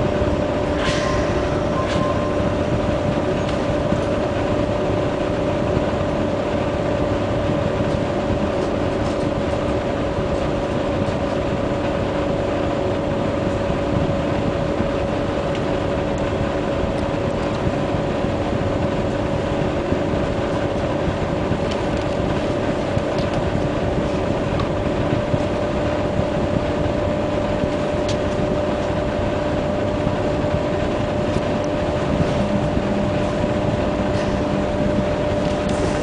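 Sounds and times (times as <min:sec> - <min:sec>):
train equipment humming: 0:00.0 - 0:36.0.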